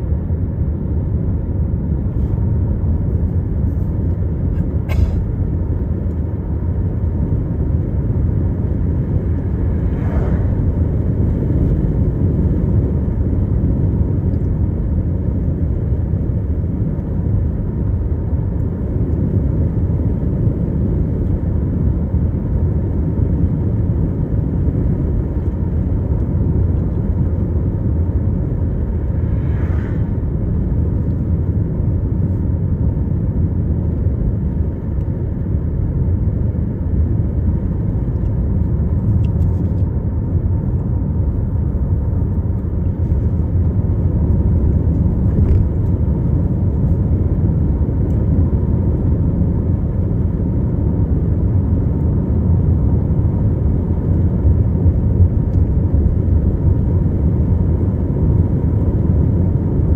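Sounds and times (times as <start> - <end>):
car tyres and engine rumble: 0.0 - 59.9.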